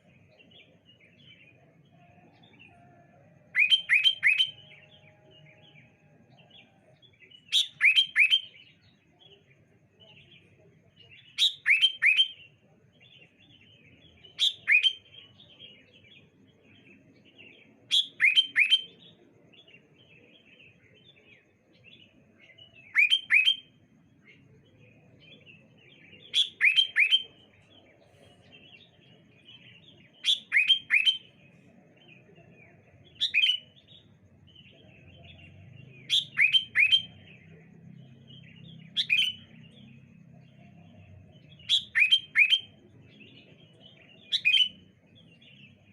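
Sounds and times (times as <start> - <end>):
soft bird twittering: 0.0 - 45.9.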